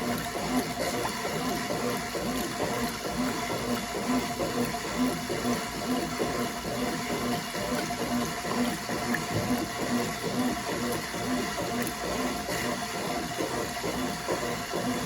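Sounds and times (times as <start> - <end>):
motor hum: 0.0 - 15.0
water sloshing in washing machine: 0.0 - 15.0.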